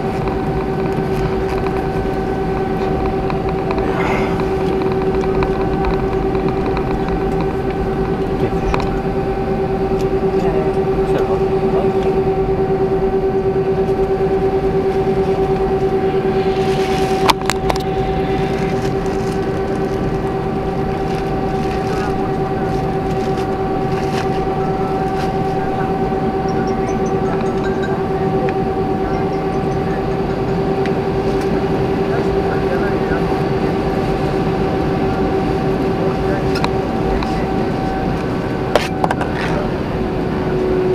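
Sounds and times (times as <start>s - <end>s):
aircraft cabin rumble: 0.0s - 40.9s
engine droning whine: 0.0s - 40.9s.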